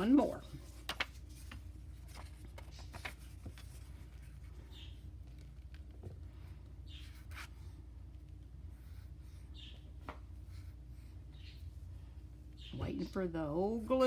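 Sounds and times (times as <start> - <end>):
paper cards rustling and rubbing: 0.0 - 12.6
steady low hum: 0.0 - 14.0.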